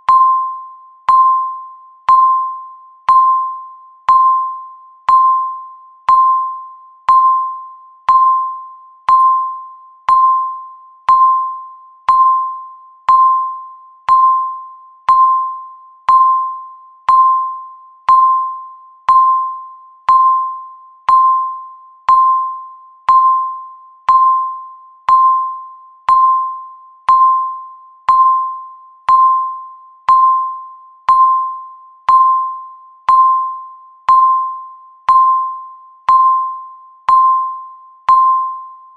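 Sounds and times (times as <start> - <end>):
electronic timer beeps: 0.0 - 38.9.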